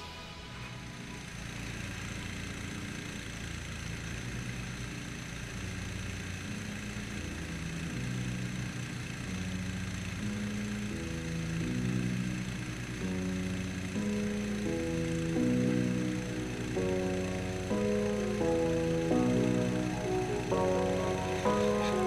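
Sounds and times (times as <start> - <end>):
boat motor running: 0.8 - 22.0.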